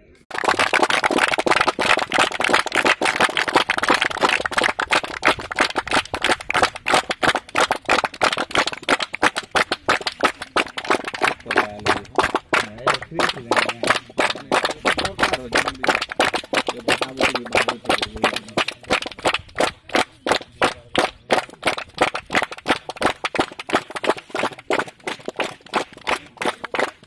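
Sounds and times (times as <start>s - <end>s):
boys clapping hands: 0.0s - 27.0s.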